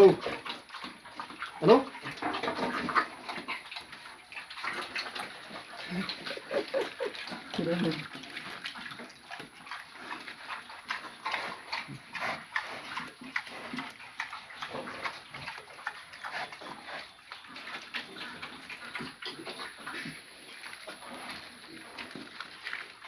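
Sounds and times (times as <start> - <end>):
pigs grunting and snuffling: 0.0 - 23.0.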